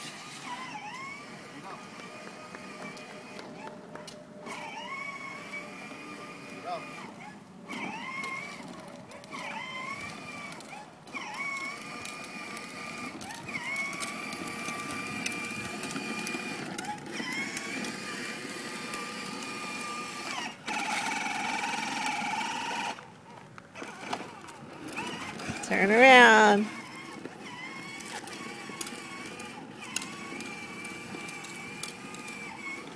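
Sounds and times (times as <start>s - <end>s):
toy electric motor whining: 0.0s - 32.9s.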